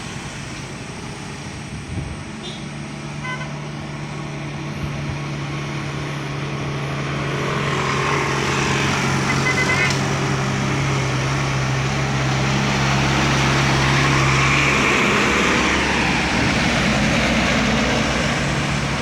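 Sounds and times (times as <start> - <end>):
heavy vehicle engine drone: 0.0 - 19.0
vehicle rushing running noise: 3.7 - 19.0.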